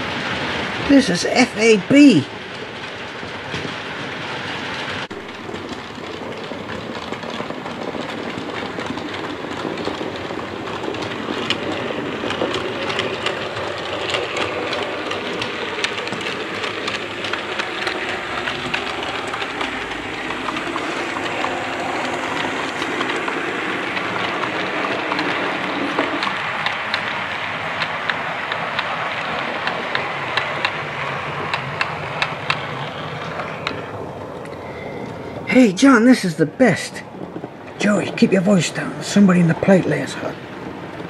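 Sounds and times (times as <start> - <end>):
train rumbling hiss: 0.0 - 41.0
wheels clicking on track: 0.0 - 41.0.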